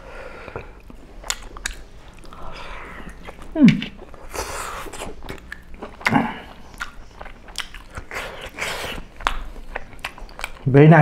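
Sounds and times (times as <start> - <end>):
chewing food: 0.4 - 10.7
lip smacks and mouth clicks: 0.5 - 2.4, 3.0 - 10.7.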